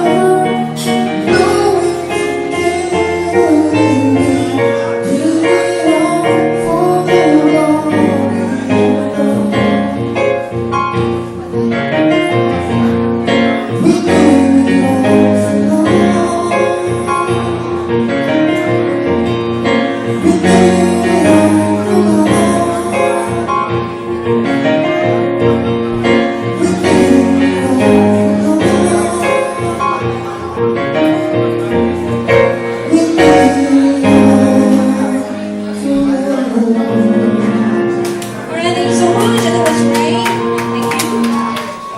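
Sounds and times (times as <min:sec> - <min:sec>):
person singing: 0:00.0 - 0:10.4, 0:13.4 - 0:18.8, 0:19.7 - 0:24.6, 0:26.2 - 0:30.9, 0:32.5 - 0:41.9
acoustic accompaniment: 0:00.0 - 0:41.9.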